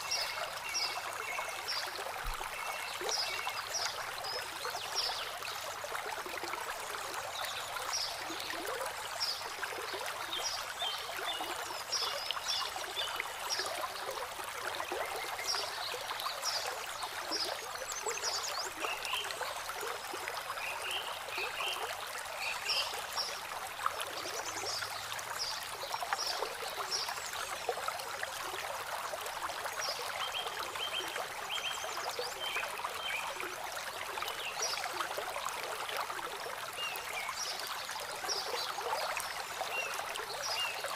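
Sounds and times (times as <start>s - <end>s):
water trickling over rocks: 0.0s - 40.9s.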